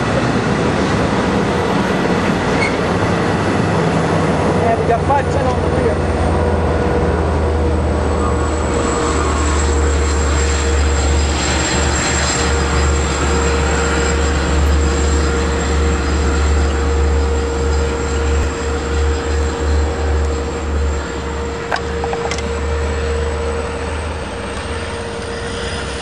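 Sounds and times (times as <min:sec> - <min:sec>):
constant high whine: 0:00.0 - 0:26.0
diesel locomotive rumble: 0:00.0 - 0:26.0.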